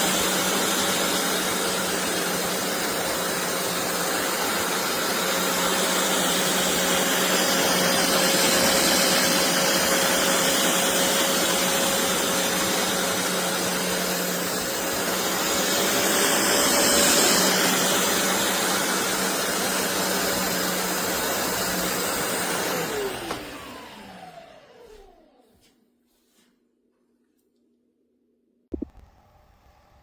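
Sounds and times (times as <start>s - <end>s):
carpet cleaner motor whining: 0.0s - 25.5s.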